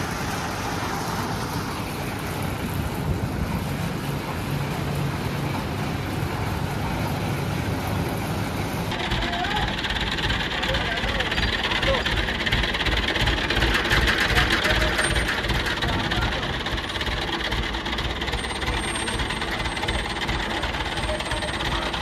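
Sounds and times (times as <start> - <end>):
diesel engine clattering: 0.0 - 22.0.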